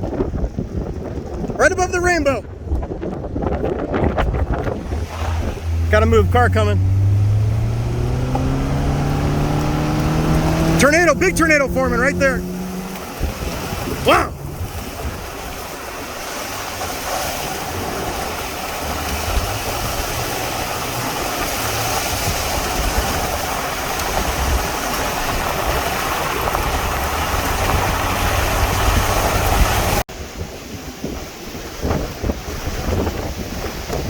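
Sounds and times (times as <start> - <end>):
wind roaring across microphone: 0.0 - 6.0, 12.4 - 34.0
low wind buffeting rumbles: 0.0 - 34.0.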